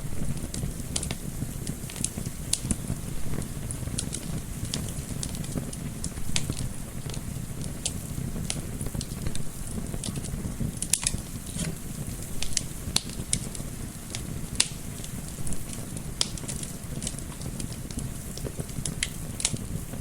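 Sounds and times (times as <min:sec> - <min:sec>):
flame rumble: 0:00.0 - 0:20.0
wood fire crackling: 0:00.0 - 0:20.0.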